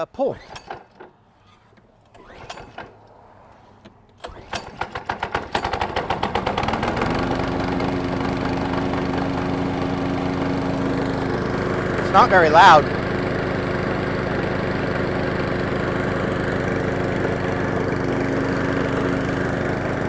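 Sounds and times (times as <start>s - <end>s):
mower engine starting and running: 0.0s - 20.0s.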